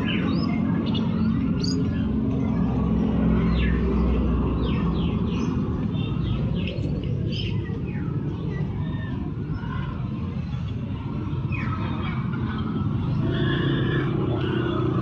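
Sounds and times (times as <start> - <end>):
motor traffic rumble: 0.0 - 15.0
small birds chirping: 0.0 - 15.0.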